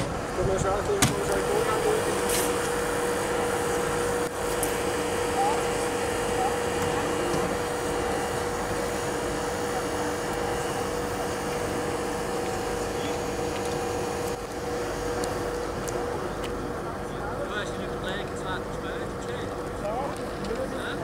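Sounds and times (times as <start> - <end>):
vehicle engines idling: 0.0 - 21.0.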